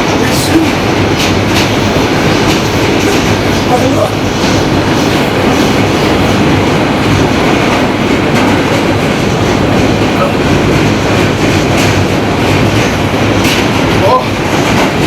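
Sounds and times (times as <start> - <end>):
subway car wheels rumbling on rails: 0.0 - 15.0.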